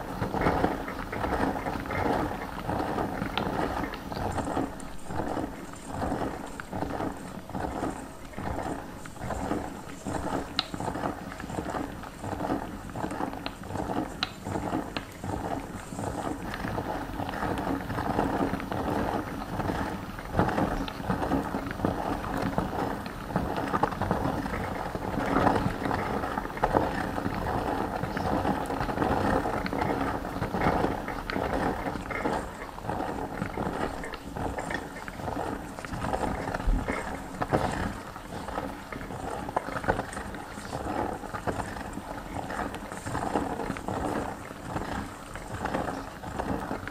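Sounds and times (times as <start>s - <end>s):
hand-cranked meat grinder clicking: 0.0s - 46.9s.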